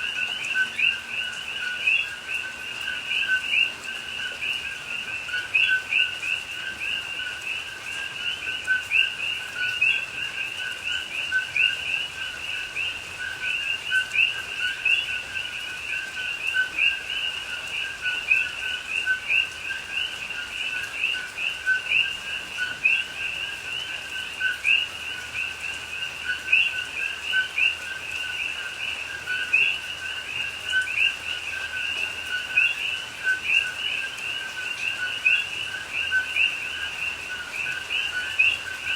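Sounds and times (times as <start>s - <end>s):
chorus of frogs calling: 0.0s - 38.9s.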